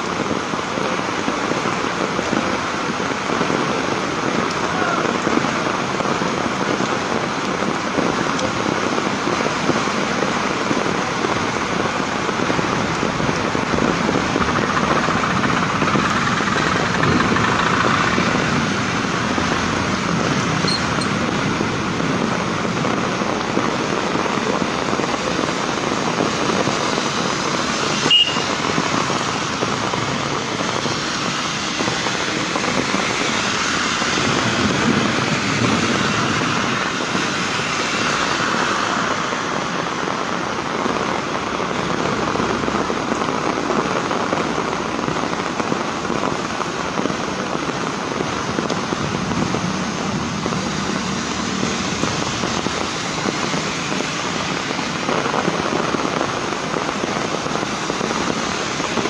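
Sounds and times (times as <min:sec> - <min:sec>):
heavy rain on a street: 0:00.0 - 0:59.0
vehicles swishing on wet road: 0:00.0 - 0:59.0.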